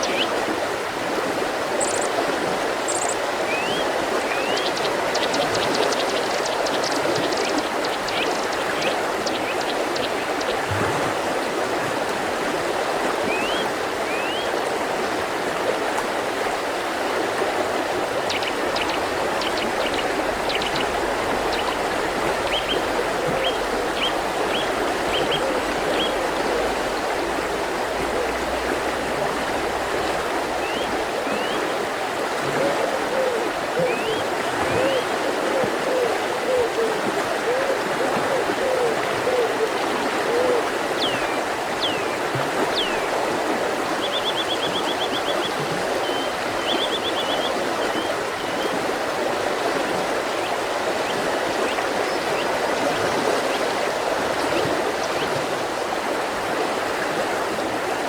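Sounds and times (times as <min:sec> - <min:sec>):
mountain river flowing: 0:00.0 - 0:58.0.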